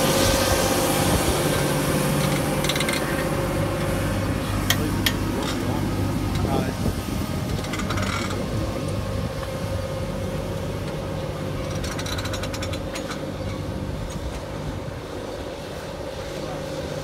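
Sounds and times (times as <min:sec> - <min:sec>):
tractor engine hum: 0:00.0 - 0:17.0.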